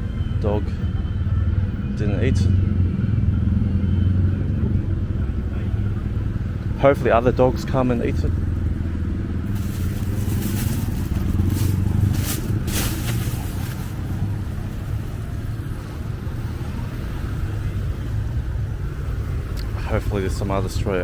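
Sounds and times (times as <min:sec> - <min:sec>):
vehicles passing: 0:00.0 - 0:21.0.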